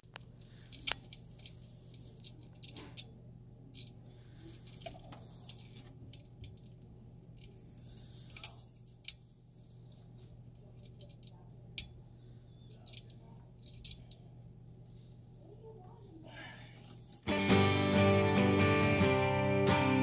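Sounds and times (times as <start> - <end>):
faint low hum: 0.0 - 17.3.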